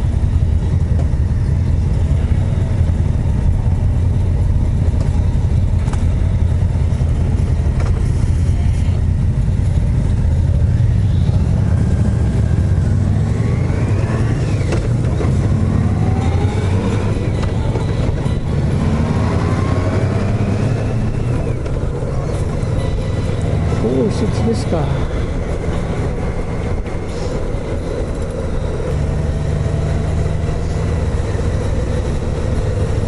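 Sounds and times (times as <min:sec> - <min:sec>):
motorcycle exhausts rumbling: 0:00.0 - 0:33.0.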